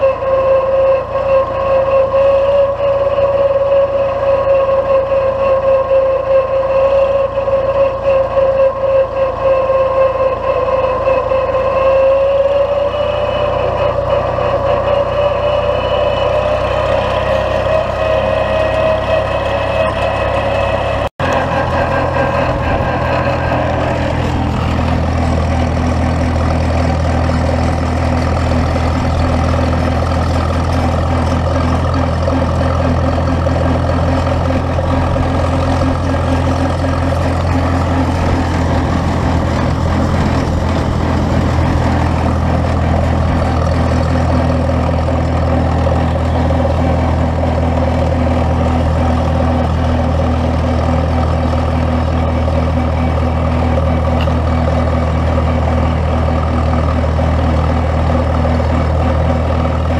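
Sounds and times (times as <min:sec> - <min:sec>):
high engine whine: 0:00.0 - 0:59.9
tractor engine drone: 0:00.0 - 0:59.9.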